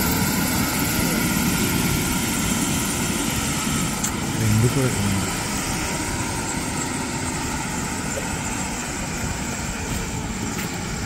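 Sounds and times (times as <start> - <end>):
helicopter rotor rushing: 0.0 - 11.0
high turbine whine: 0.0 - 11.0.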